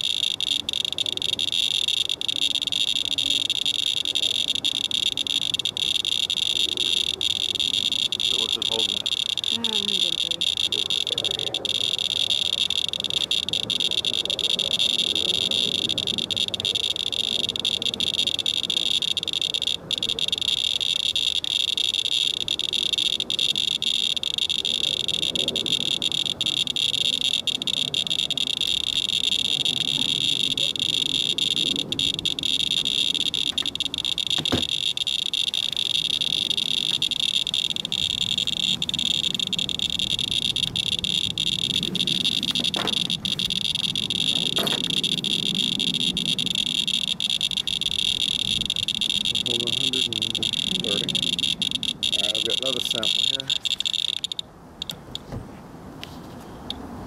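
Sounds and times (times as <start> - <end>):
geiger counter buzzing: 0.0 - 55.2.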